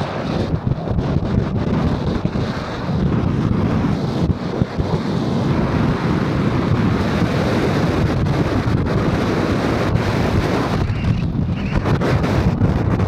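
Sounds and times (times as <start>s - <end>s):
vehicle rumbling at speed: 0.0s - 13.0s
wind buffeting microphone: 0.0s - 13.0s.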